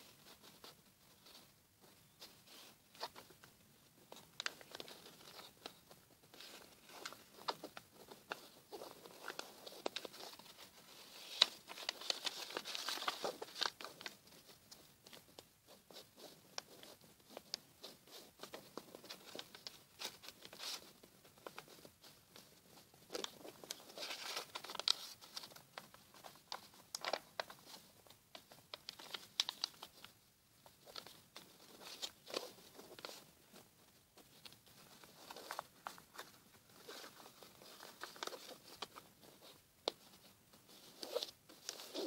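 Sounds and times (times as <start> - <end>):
paper rustling and crinkling: 0.0 - 42.0.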